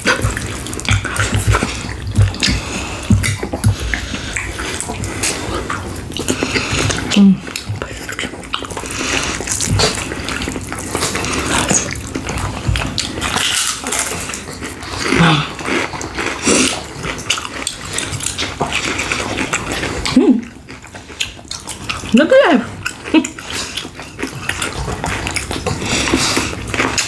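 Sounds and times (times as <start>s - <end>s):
chewing and lip-smacking: 0.0s - 27.0s.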